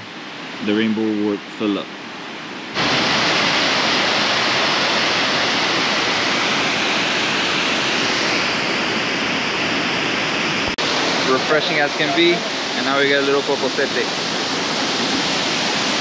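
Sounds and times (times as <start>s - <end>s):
waterfall rushing: 2.8s - 16.0s.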